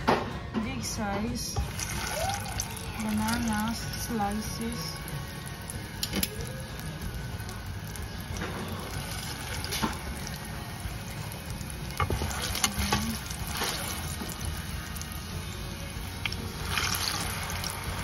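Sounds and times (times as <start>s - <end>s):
food sizzling in hot oil: 1.6s - 18.0s.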